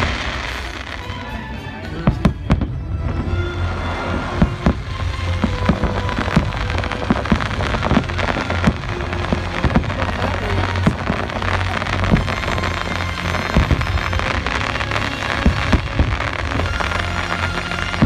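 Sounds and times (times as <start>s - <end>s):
fireworks bangs: 0.0s - 1.3s, 2.0s - 18.0s
fireworks crackling: 0.0s - 18.0s
loud music: 0.0s - 18.0s.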